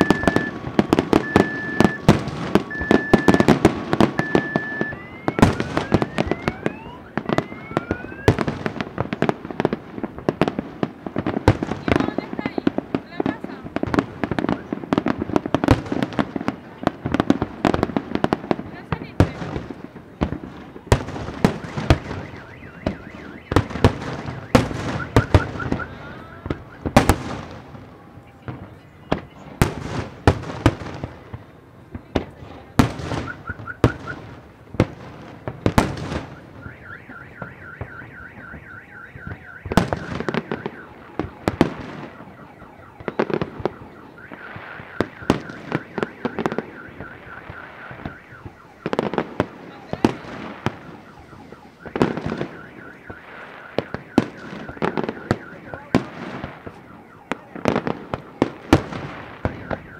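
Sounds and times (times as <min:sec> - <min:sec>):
car alarm pulsing beep: 0:00.0 - 0:10.4, 0:11.5 - 0:17.2, 0:20.7 - 0:29.8, 0:32.8 - 0:34.6, 0:35.7 - 0:59.9
fireworks bursting with sharp bangs: 0:00.0 - 0:59.9.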